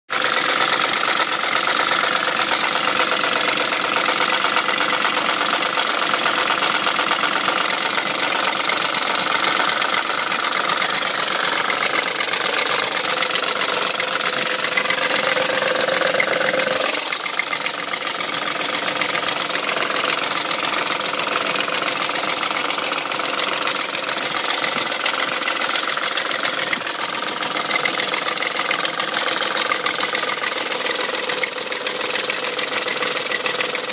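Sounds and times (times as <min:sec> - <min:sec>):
engine mechanical rattle: 0:00.1 - 0:33.9
engine running: 0:00.1 - 0:33.9.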